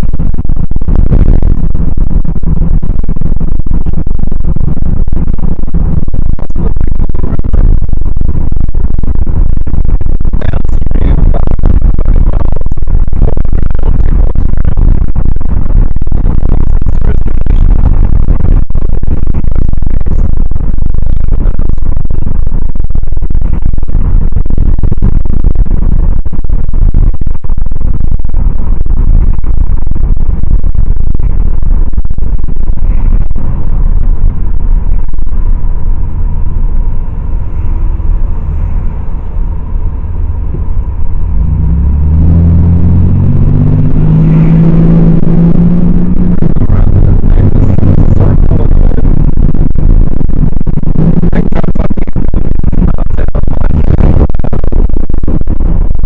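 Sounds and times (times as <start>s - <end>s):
road and wind noise in car: 0.0s - 56.0s.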